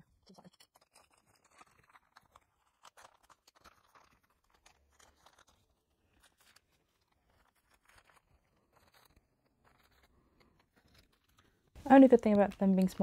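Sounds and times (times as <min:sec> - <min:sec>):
photocards rustling: 0:00.3 - 0:13.0.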